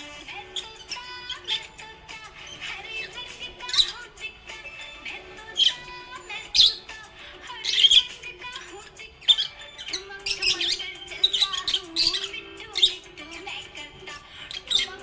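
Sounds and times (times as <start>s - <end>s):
background music: 0.0s - 15.0s
parrots chirping and squawking: 0.0s - 15.0s.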